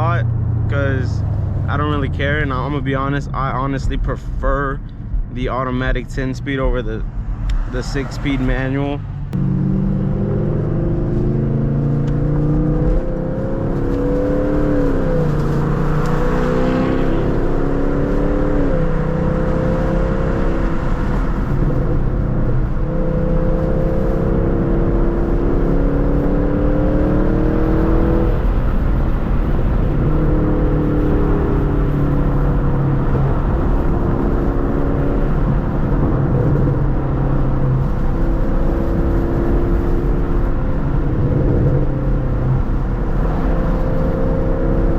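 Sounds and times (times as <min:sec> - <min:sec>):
car engine accelerating through gears: 0:06.5 - 0:44.9.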